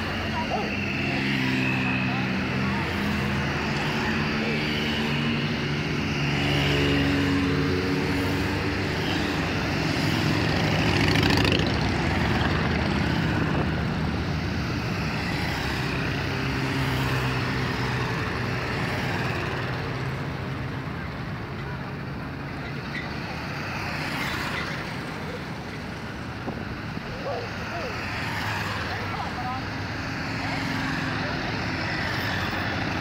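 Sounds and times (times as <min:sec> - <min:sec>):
motorcycles passing: 0:00.0 - 0:33.0.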